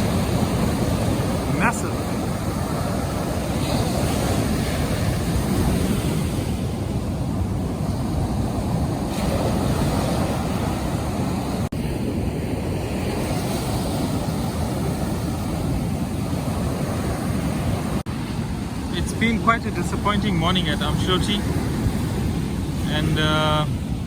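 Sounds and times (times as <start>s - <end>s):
waves breaking on a beach: 0.0s - 24.0s
wind buffeting microphone: 0.0s - 24.0s.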